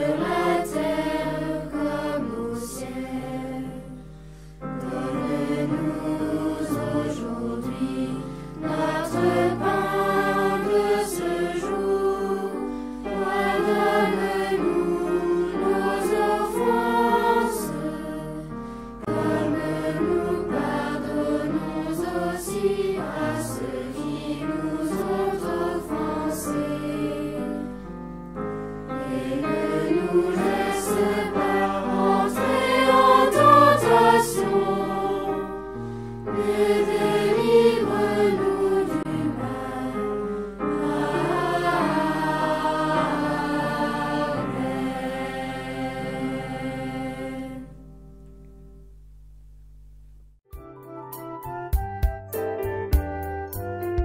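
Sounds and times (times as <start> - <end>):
choir singing: 0.0 - 27.8, 28.9 - 47.8.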